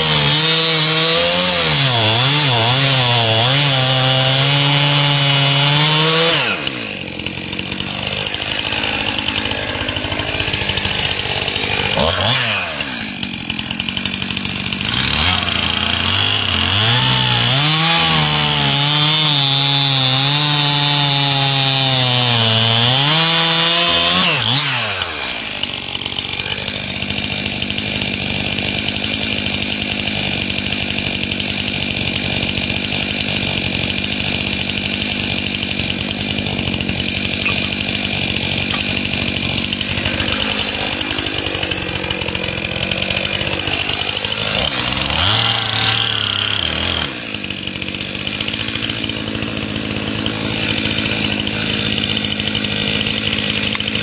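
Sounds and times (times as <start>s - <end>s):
chainsaw cutting and idling: 0.0s - 54.0s.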